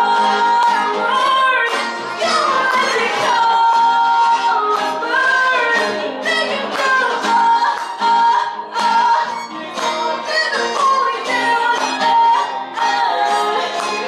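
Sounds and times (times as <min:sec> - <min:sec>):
acoustic guitar: 0:00.0 - 0:14.0
violin: 0:00.0 - 0:14.0
women singing: 0:00.0 - 0:14.0.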